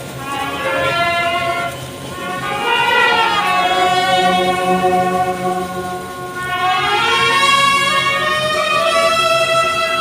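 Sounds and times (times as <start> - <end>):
brass band playing held chords: 0.0 - 10.0.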